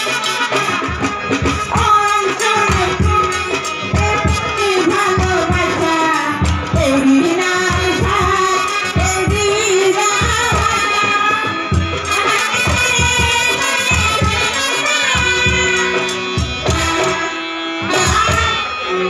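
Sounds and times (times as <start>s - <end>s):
live band drumbeat: 0.0s - 19.0s
woman singing over a pa: 1.6s - 19.0s.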